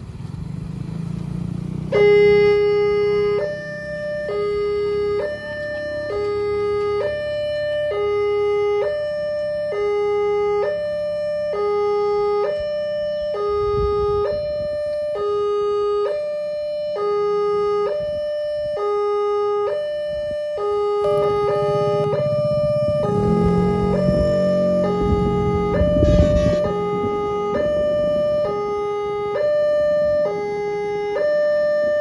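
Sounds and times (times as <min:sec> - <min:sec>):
two-tone crossing alarm chime: 0:01.9 - 0:32.0.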